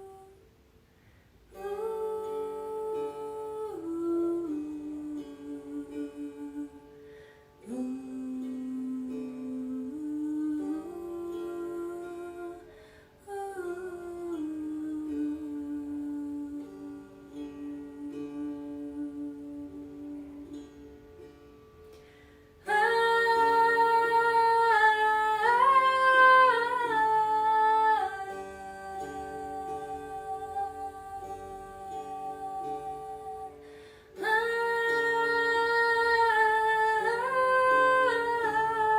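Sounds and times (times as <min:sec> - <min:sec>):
hummed and sung vocal tones: 0:00.0 - 0:00.4, 0:01.5 - 0:21.3, 0:22.6 - 0:38.9
soft plucked strings: 0:00.0 - 0:38.9.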